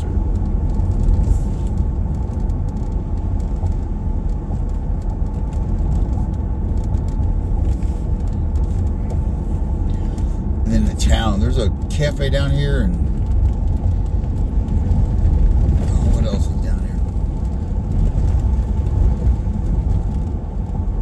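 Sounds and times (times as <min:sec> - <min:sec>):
vehicle driving from inside cab: 0:00.0 - 0:21.0.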